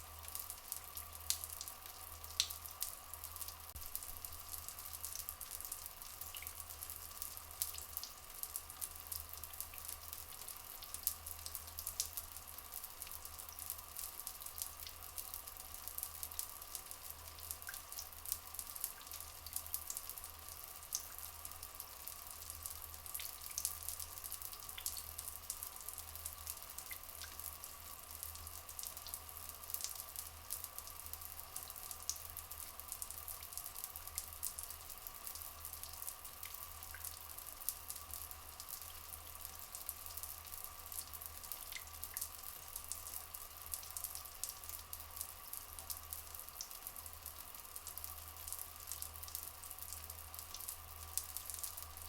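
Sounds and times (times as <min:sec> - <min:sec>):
trickling flowing water: 0:00.0 - 0:52.0
water drips and splashes: 0:00.0 - 0:52.0.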